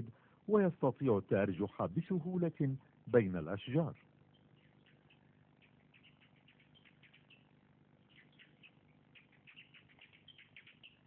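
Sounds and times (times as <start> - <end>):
low steady hum: 0.0 - 11.0
faint bird chirps: 1.0 - 11.0.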